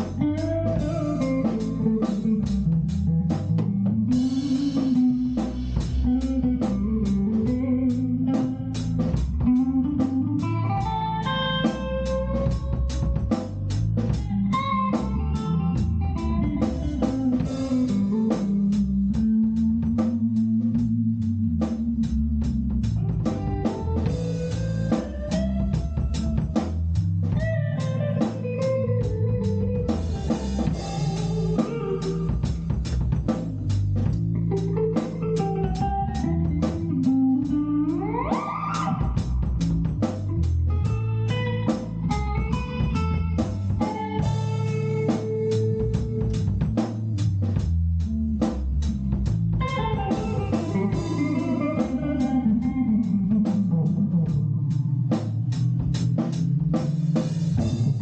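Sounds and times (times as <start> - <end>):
bass guitar: 0.0 - 58.0
drum kit beat: 0.0 - 58.0
electric guitar melody: 0.0 - 58.0.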